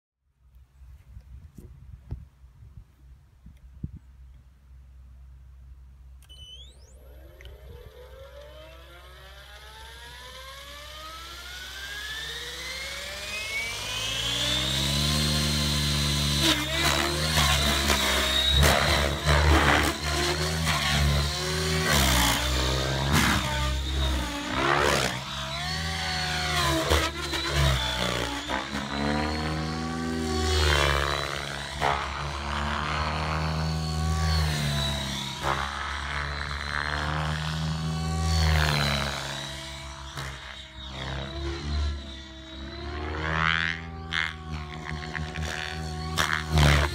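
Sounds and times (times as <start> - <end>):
electric motor whine climbing: 6.2 - 46.9
rotor blades whooshing: 6.4 - 46.9.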